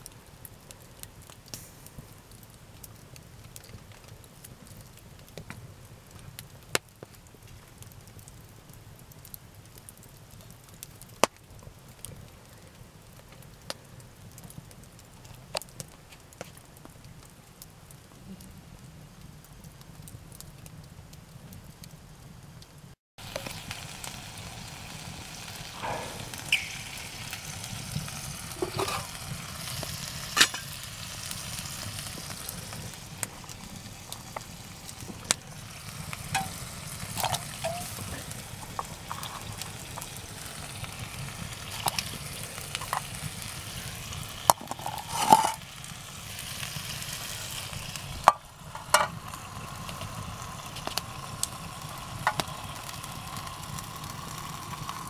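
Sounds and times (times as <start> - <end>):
campfire hissing and crackling: 0.0 - 55.0
pot of water boiling: 0.0 - 55.0.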